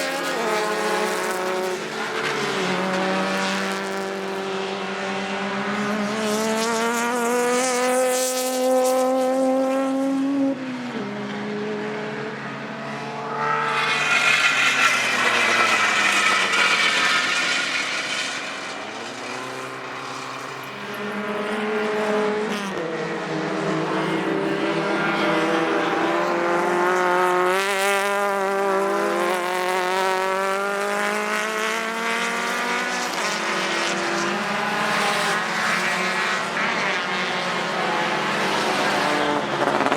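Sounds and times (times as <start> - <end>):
racing car engines at full throttle: 0.0 - 39.9
racing car passing by: 0.0 - 39.9.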